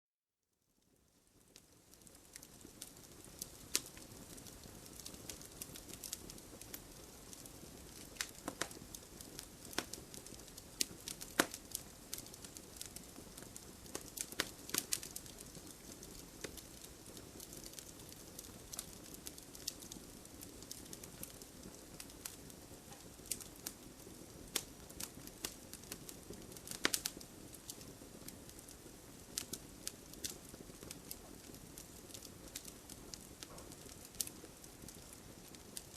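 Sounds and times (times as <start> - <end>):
wood fire crackling: 0.8 - 35.9.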